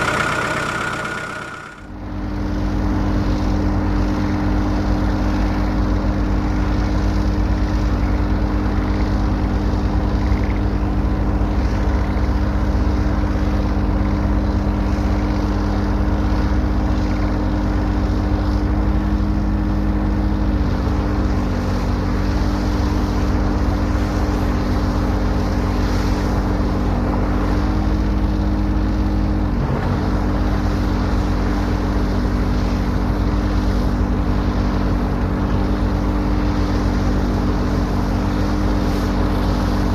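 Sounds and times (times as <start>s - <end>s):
excavator engine droning: 0.0s - 39.9s.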